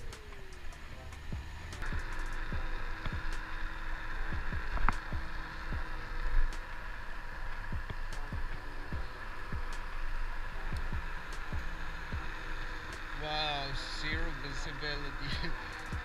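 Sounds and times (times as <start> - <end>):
road hiss: 0.0 - 16.0.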